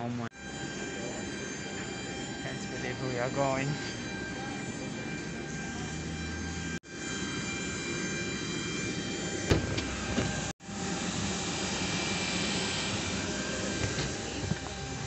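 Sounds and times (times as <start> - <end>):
jet turbine whine: 0.0 - 15.0.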